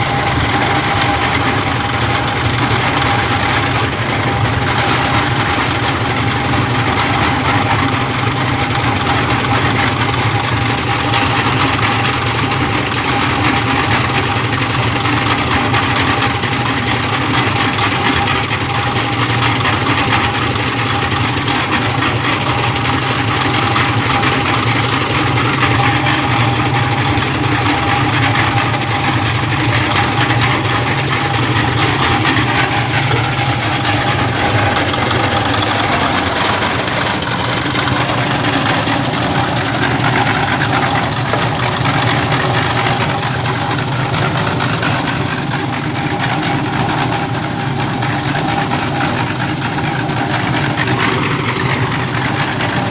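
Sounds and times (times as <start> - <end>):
engine humming: 0.0 - 52.9.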